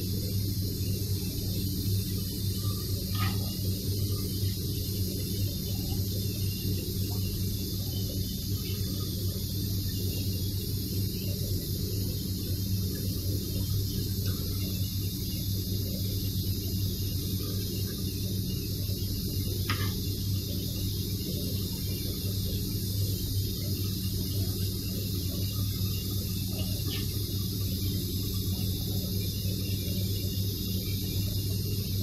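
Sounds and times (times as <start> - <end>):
constant high hiss: 0.0 - 32.0
low electrical hum: 0.0 - 32.0.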